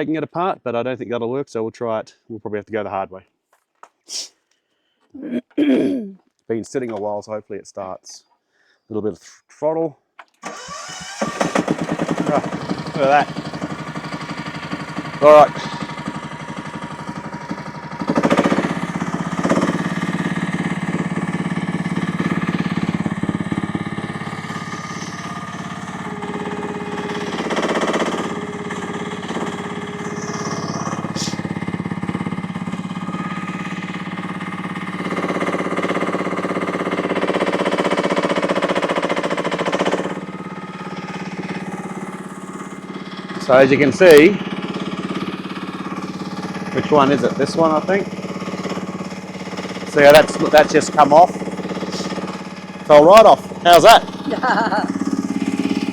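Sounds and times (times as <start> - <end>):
mini excavator engine running: 10.4 - 55.9.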